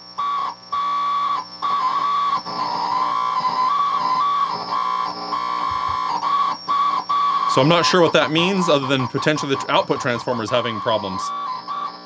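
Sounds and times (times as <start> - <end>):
guitar amp high-pitched squeal: 0.0 - 12.0.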